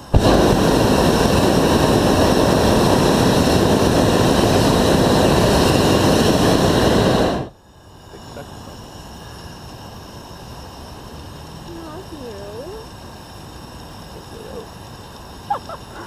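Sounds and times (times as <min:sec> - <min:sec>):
propane burner blast: 0:00.0 - 0:16.0.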